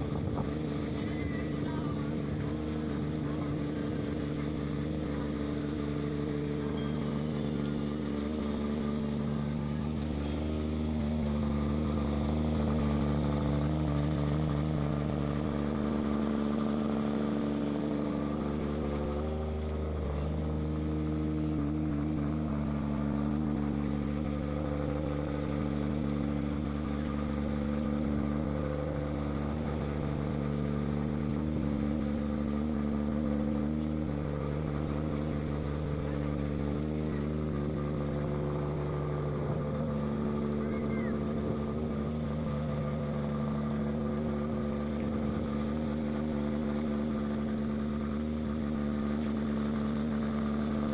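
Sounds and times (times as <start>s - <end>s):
boat engine humming: 0.0s - 50.9s.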